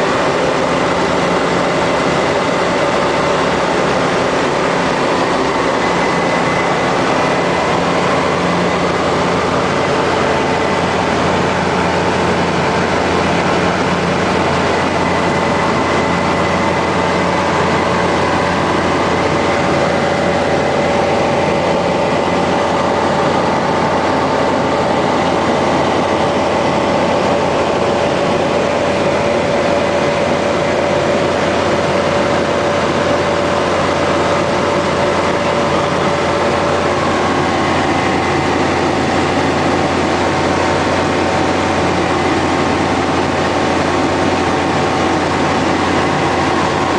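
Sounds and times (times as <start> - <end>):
light aircraft engine droning: 0.0 - 46.9
rushing air: 0.0 - 46.9.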